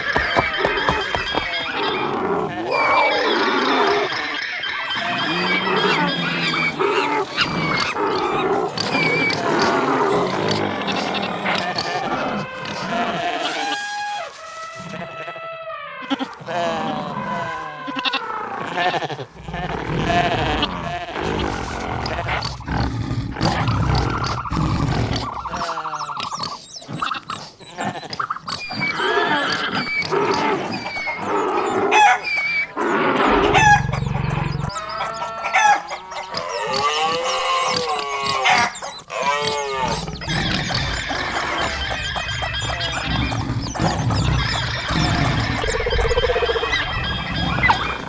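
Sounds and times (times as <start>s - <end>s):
cartoon animal calls and cries: 0.0s - 22.6s, 23.5s - 48.0s.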